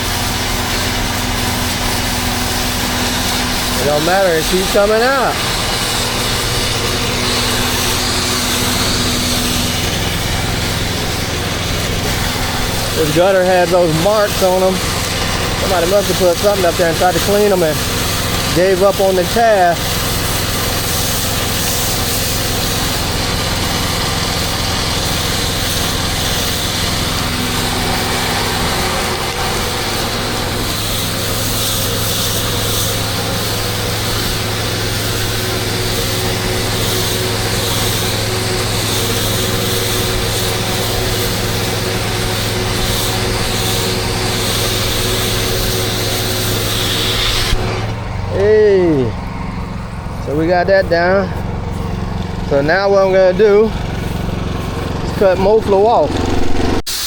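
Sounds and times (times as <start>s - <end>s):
pressure washer engine running: 0.0s - 57.0s
water jet spraying: 0.0s - 57.0s.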